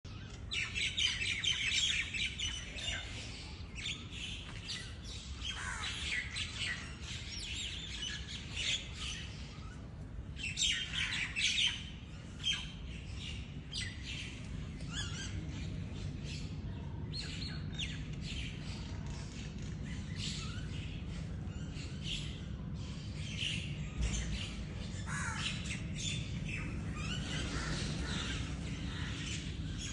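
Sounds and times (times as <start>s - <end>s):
many birds calling: 0.1s - 29.9s
steady low rumble: 1.3s - 29.9s.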